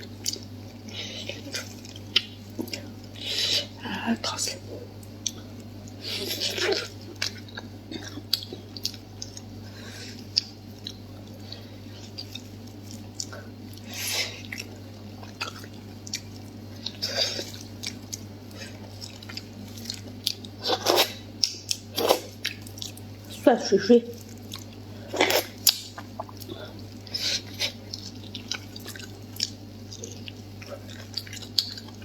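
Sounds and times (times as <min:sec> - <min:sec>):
wet chewing mouth sounds: 0:04.3 - 0:23.1, 0:24.2 - 0:32.0.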